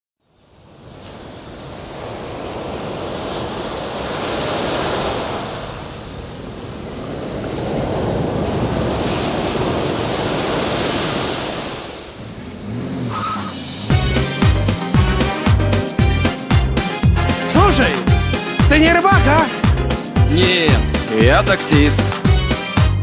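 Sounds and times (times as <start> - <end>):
sea waves surging: 0.5 - 23.0.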